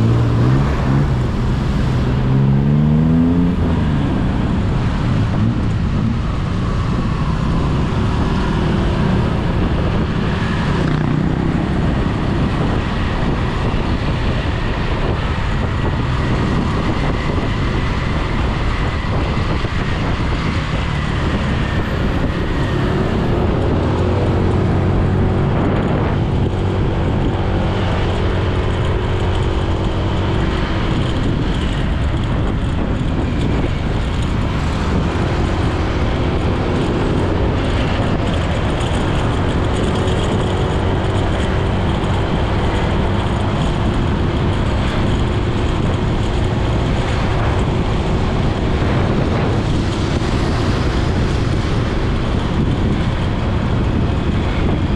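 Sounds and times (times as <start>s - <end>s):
motorcycle engine revving: 0.0s - 54.9s
road and wind noise: 0.0s - 54.9s.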